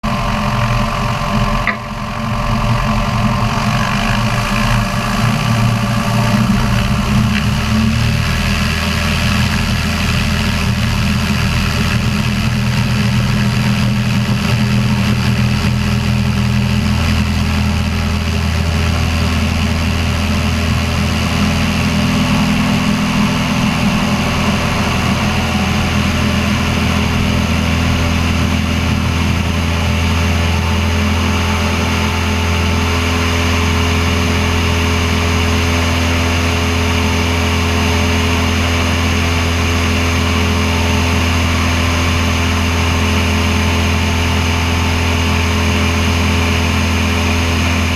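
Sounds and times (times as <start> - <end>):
small plane engine drone: 0.0 - 47.9.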